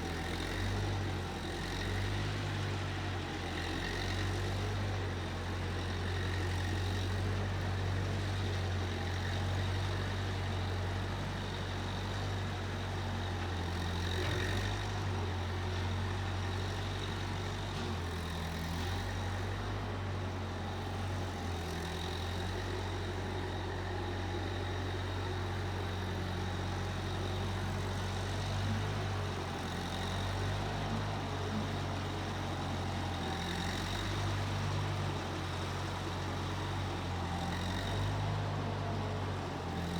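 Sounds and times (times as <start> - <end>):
skid steer engine humming: 0.0 - 39.9.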